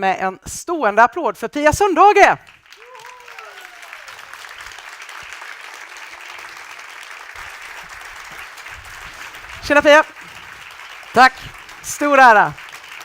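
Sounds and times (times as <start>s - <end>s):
large audience clapping: 2.4s - 13.0s.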